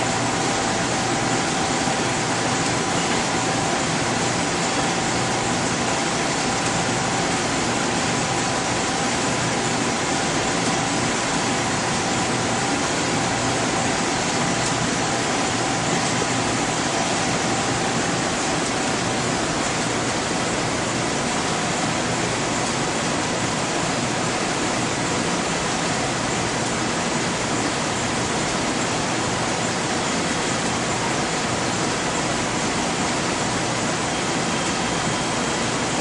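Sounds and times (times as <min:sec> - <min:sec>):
equipment fans hissing: 0:00.0 - 0:36.0.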